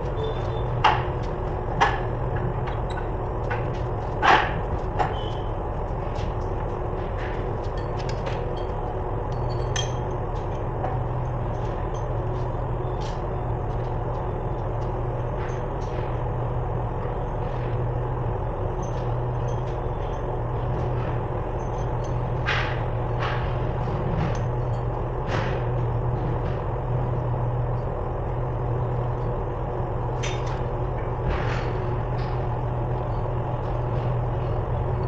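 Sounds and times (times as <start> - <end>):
workshop machinery hum: 0.0 - 35.0.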